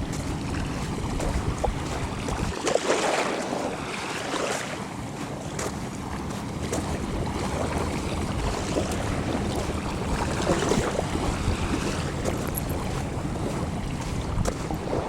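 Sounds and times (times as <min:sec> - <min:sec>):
water lapping at shore: 0:00.0 - 0:15.0
wind buffeting microphone: 0:00.0 - 0:15.0.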